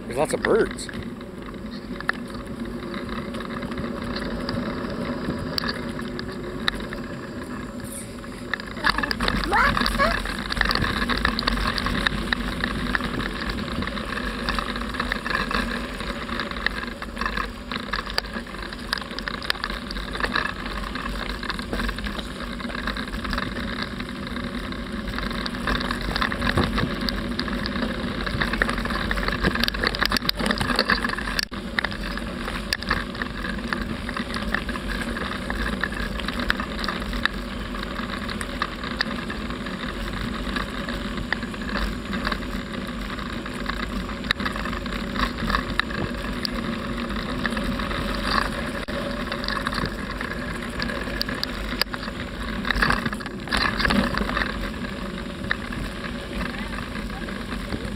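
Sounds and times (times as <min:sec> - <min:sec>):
bicycle rolling: 0:00.0 - 0:57.9.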